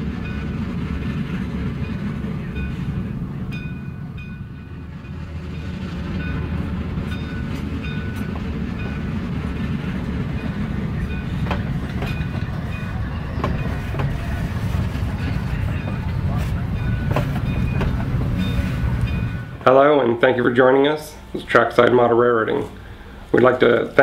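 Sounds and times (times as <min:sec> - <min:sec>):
train rumbling: 0:00.0 - 0:24.0
wheels clicking on rail joints: 0:00.0 - 0:24.0.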